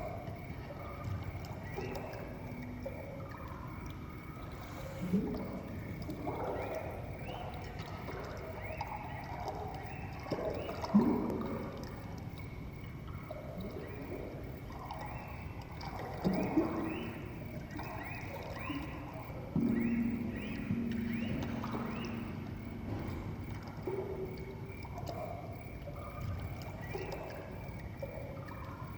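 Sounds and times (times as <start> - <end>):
steady ambient wash: 0.0 - 28.9.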